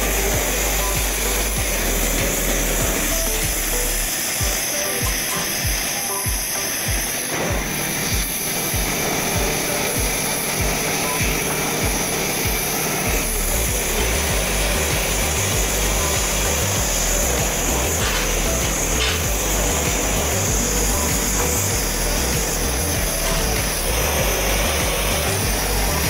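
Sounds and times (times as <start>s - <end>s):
background music with thumping beat: 0.0s - 26.0s.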